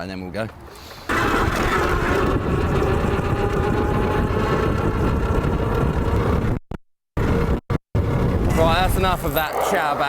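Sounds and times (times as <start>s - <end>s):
loud wind: 1.0s - 10.0s.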